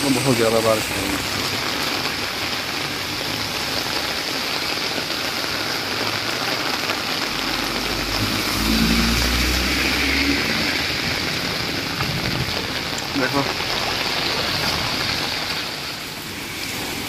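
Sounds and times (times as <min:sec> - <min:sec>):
heavy rain hissing: 0:00.0 - 0:17.0
tyres splashing through water: 0:00.0 - 0:17.0.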